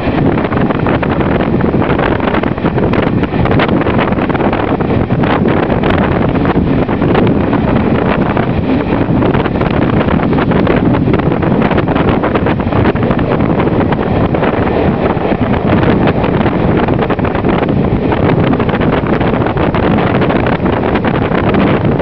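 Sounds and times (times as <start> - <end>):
train rumbling on rails: 0.0 - 22.0
wind buffeting microphone: 0.0 - 22.0.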